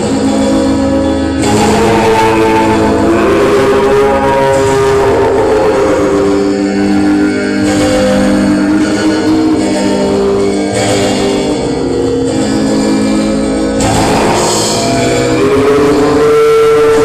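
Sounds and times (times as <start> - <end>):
pop rock music with guitar: 0.0 - 17.0.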